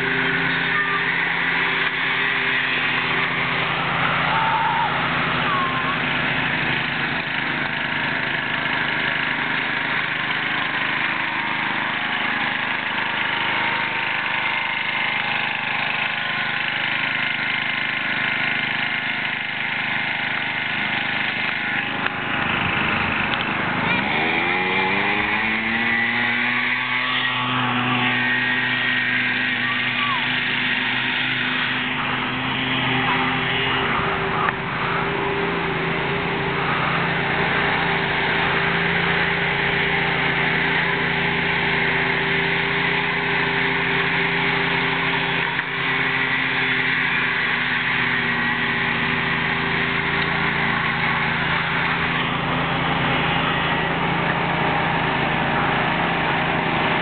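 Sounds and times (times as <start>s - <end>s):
lawn tractor engines running: 0.0s - 57.0s.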